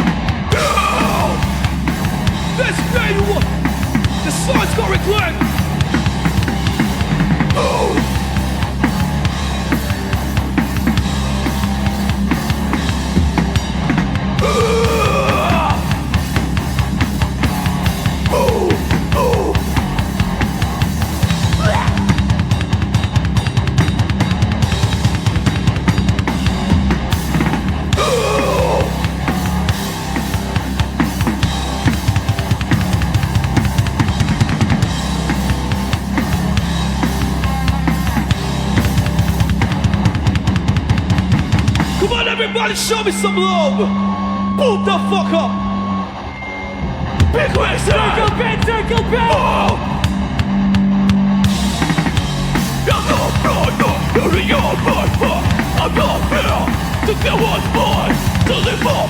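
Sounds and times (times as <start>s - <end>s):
drum kit pounding: 0.0s - 42.4s, 47.2s - 59.0s
punk band playing live: 0.0s - 43.4s, 47.1s - 59.0s.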